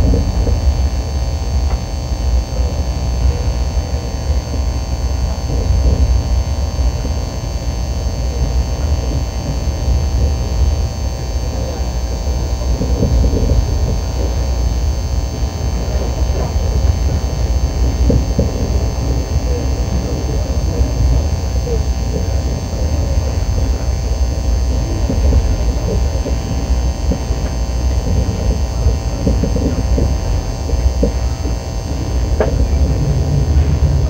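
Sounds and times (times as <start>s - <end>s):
train running low rumble: 0.0s - 34.0s.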